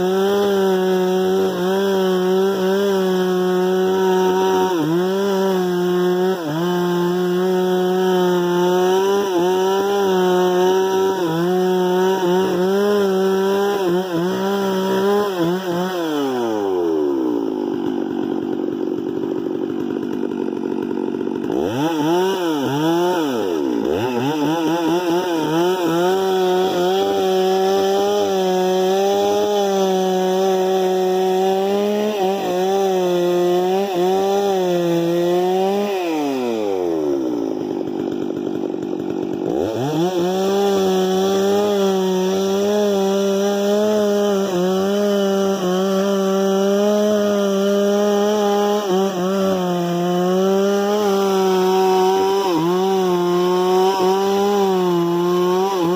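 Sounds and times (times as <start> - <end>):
chainsaw engine revving and idling: 0.0 - 55.9.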